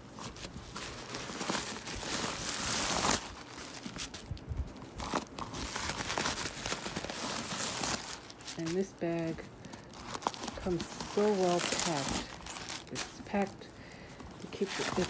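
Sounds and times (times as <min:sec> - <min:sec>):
paper crinkling and rustling: 0:00.0 - 0:15.0.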